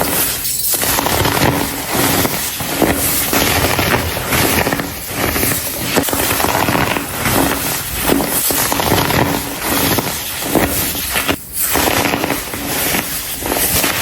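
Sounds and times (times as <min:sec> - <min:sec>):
baking soda crumbling and crunching: 0:00.0 - 0:14.0.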